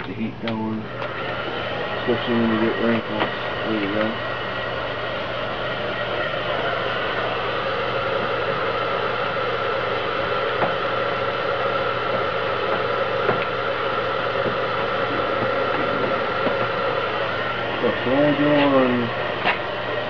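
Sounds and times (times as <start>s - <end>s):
heat gun blowing air: 0.9s - 20.0s.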